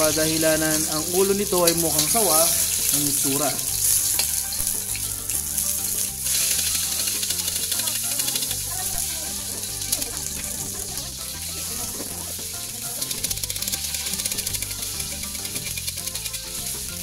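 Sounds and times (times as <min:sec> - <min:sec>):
background music with bass line: 0:00.0 - 0:17.0
fish sizzling in hot oil: 0:00.0 - 0:17.0.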